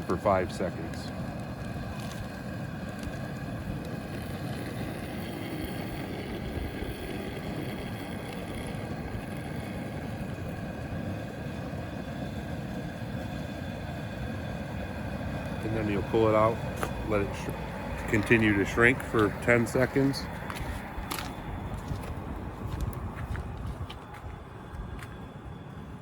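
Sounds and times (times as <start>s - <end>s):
faint hum: 0.0s - 26.0s
low rushing noise: 0.0s - 26.0s.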